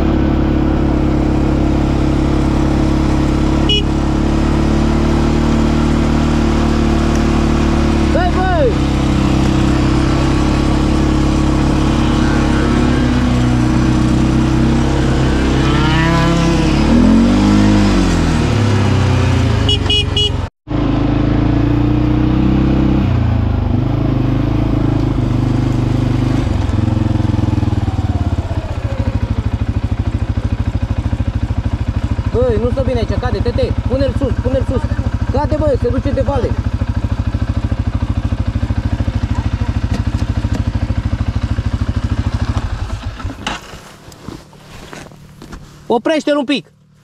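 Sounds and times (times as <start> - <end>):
atv engine running: 0.0 - 47.0.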